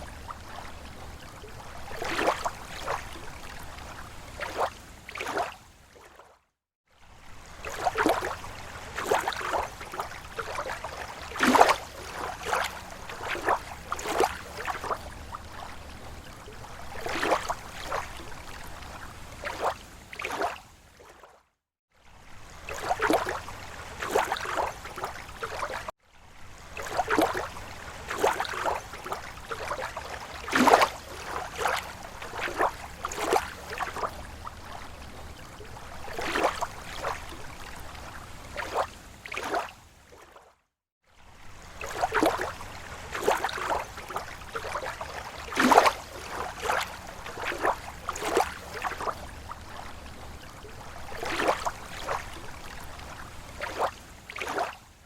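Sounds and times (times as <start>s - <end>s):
steady water wash: 0.0s - 6.3s, 7.1s - 21.2s, 22.3s - 40.4s, 41.2s - 54.8s
small waves lapping on shore: 0.0s - 55.0s.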